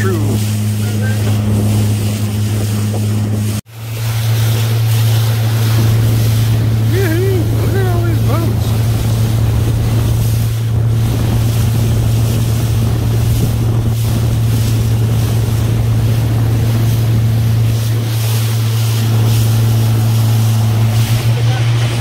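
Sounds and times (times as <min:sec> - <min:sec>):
boat engine running: 0:00.0 - 0:22.0
water rushing: 0:00.0 - 0:22.0
wind buffeting microphone: 0:00.0 - 0:22.0.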